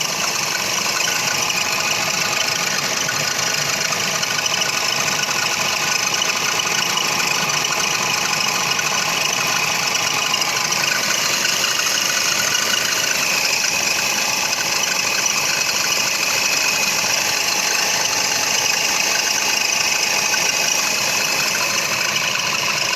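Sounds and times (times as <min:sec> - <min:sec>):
car engine idling: 0:00.0 - 0:22.9
drive belt squeaking: 0:00.0 - 0:22.9.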